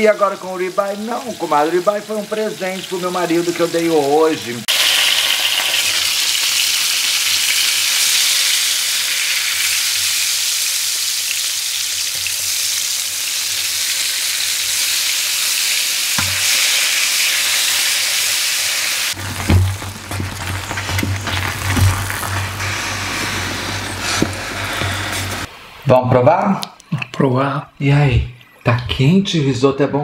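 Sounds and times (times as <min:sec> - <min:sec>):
steaks sizzling in a frying pan: 0:00.0 - 0:25.5.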